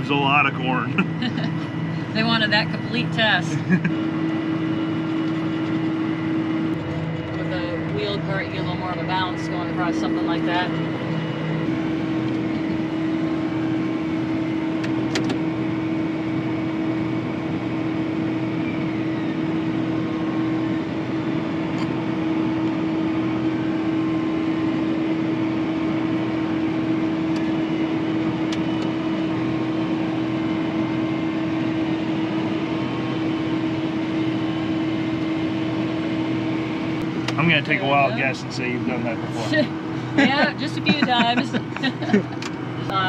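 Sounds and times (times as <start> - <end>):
tractor engine drone: 0.0 - 43.0.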